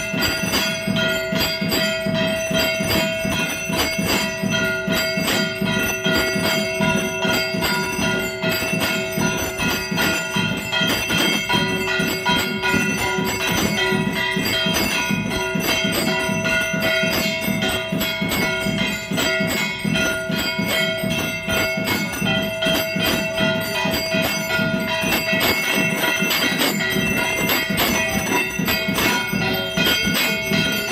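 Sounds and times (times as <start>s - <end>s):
bells ringing rapidly: 0.0s - 30.9s.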